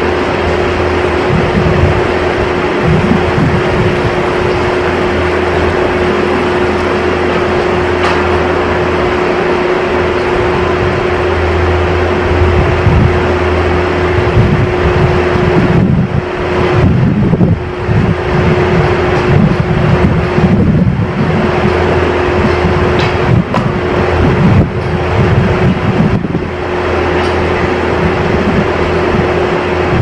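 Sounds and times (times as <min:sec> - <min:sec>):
mechanical drone: 0:00.0 - 0:30.0
wind buffeting on microphone: 0:00.0 - 0:30.0.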